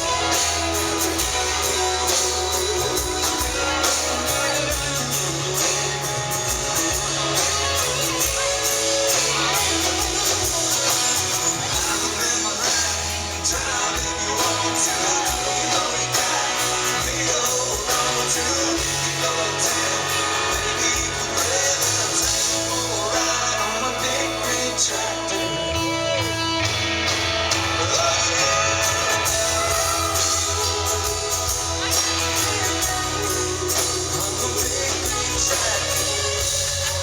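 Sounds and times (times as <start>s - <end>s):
person singing: 0.0s - 26.7s, 27.6s - 37.0s
country rock band playing: 0.0s - 37.0s
electric guitar: 0.0s - 37.0s.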